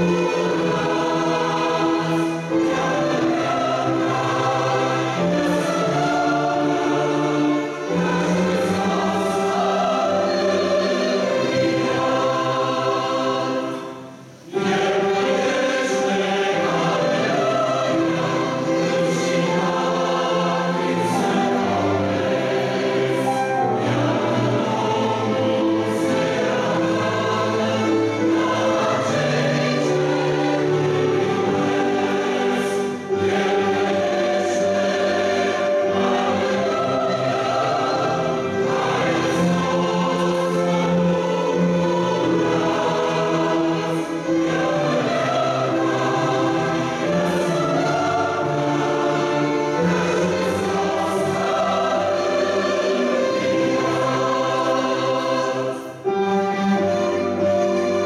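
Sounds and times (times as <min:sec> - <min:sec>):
church choir singing a hymn: 0:00.0 - 0:58.0
piano: 0:00.0 - 0:58.0
string orchestra: 0:00.0 - 0:58.0.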